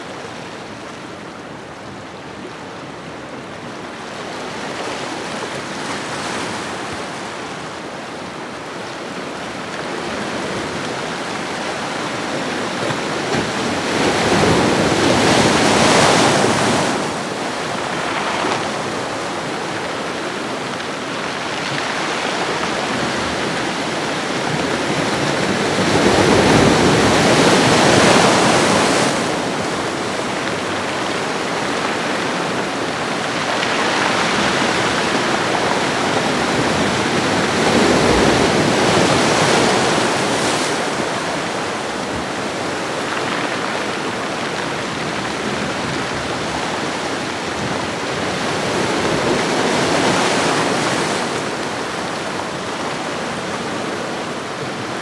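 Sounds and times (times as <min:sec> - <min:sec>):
ocean waves on shoreline: 0:04.4 - 0:55.0.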